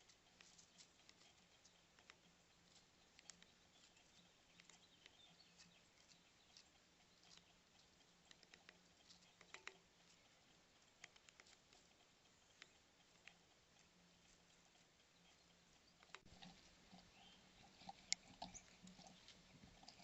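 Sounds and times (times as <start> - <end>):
birds pecking at feeder: 0.0 - 20.0
faint low hum: 0.0 - 20.0.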